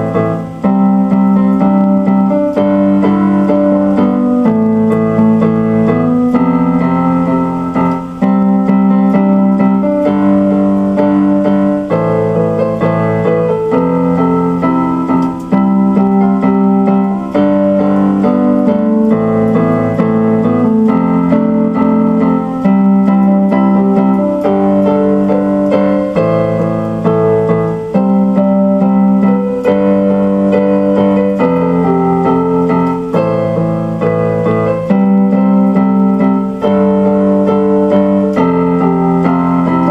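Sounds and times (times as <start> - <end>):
keyboard playing piano chords: 0.0 - 39.9.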